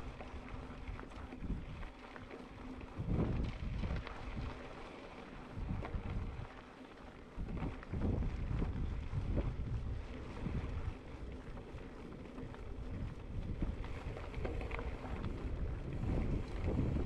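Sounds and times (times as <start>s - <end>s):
wind buffeting microphone: 0.0s - 4.8s, 5.5s - 6.6s, 7.3s - 17.0s.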